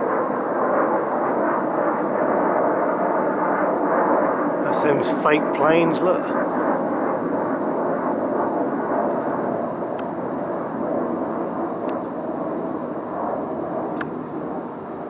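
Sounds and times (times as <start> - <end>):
jet aircraft engine roar: 0.0 - 15.0.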